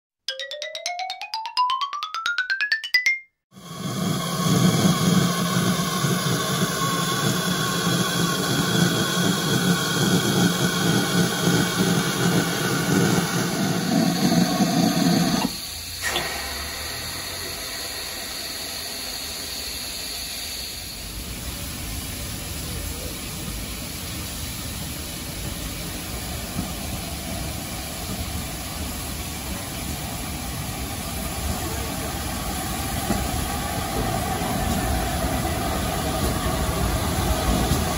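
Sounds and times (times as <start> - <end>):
steam locomotive hissing: 3.6 - 37.9
steam locomotive rumbling past: 3.6 - 37.9.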